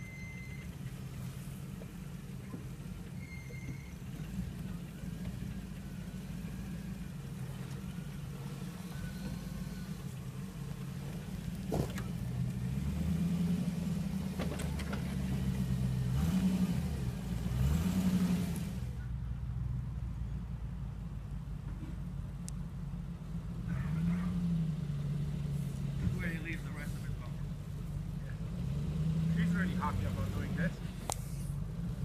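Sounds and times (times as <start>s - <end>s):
truck engine revving: 0.0s - 19.1s, 23.4s - 32.0s.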